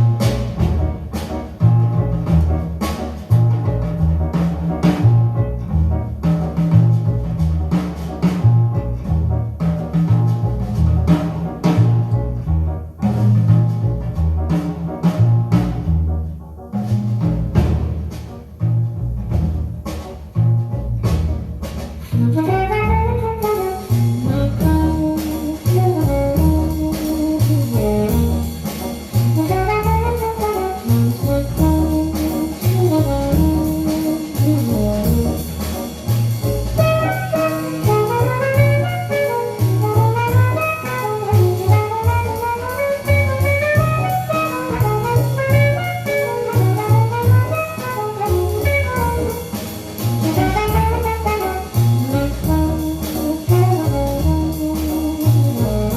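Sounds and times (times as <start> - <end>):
jazz with brass and saxophone: 0.0 - 55.9
walking bass line: 0.0 - 55.9.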